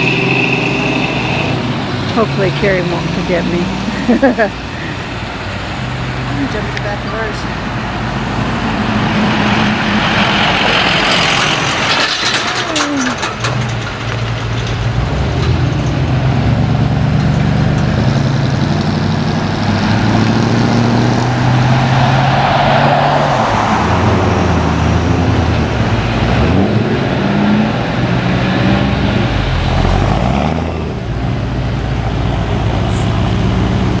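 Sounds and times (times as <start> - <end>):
cars passing at low speed: 0.0 - 12.4, 13.1 - 34.0.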